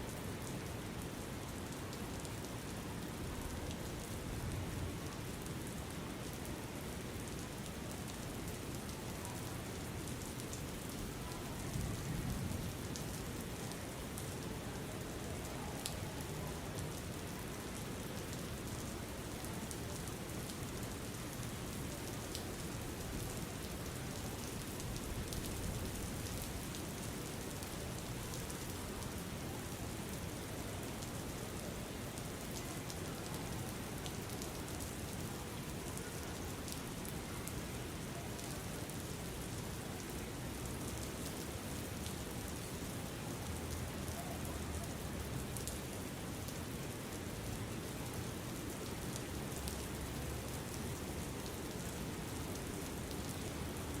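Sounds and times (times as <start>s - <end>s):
rain falling: 0.1s - 54.0s
rain drops ticking: 0.4s - 54.0s.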